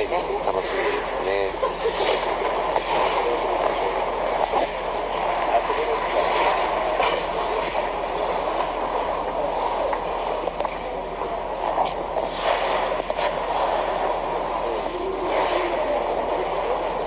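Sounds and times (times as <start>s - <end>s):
rumbling hall ambience: 0.0s - 17.0s
skate blades gliding on ice: 0.0s - 17.0s.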